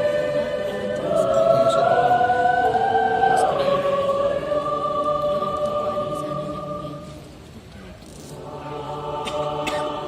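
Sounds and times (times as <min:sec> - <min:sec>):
choir singing a hymn: 0:00.0 - 0:07.4, 0:08.3 - 0:10.0.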